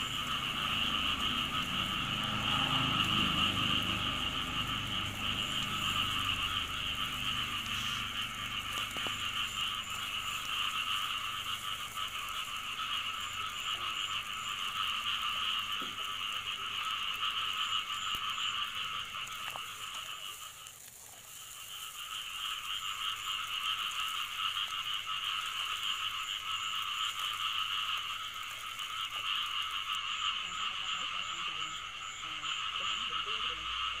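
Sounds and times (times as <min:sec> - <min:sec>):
frogs calling: 0:00.0 - 0:34.0.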